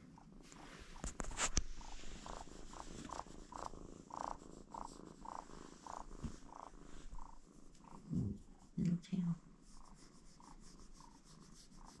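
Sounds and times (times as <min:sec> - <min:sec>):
kitten purring: 0:00.0 - 0:12.0.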